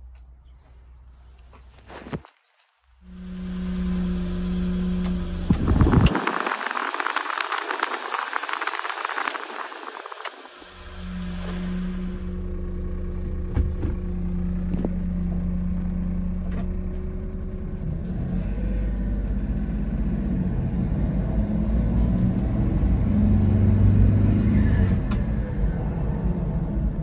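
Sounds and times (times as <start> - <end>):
small truck engine: 3.0 - 27.0.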